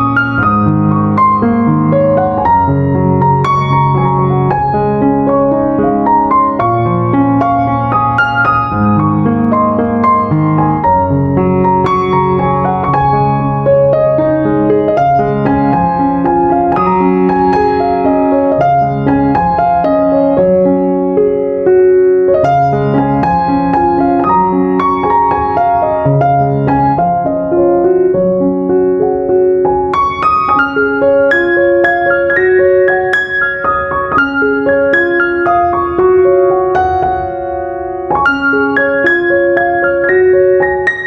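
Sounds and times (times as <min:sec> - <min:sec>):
gentle piano music: 0:00.0 - 0:41.0.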